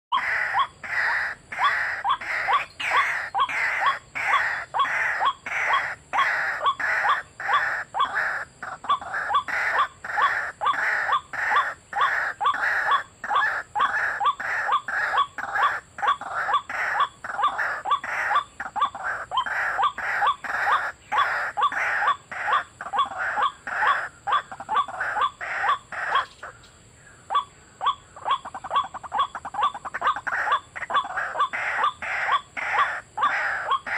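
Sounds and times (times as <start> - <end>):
bird calling harsh repeated notes: 0.1 - 33.9.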